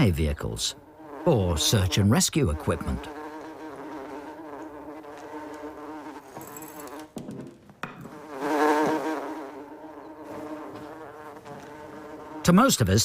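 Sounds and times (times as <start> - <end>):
housefly buzzing: 0.0 - 13.0.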